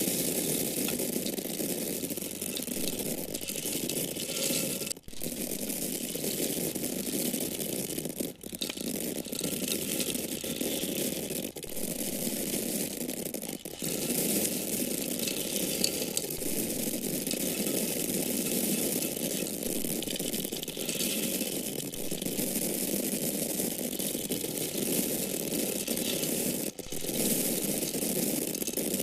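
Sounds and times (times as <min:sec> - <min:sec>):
corn kernels rattling: 0:00.0 - 0:29.0.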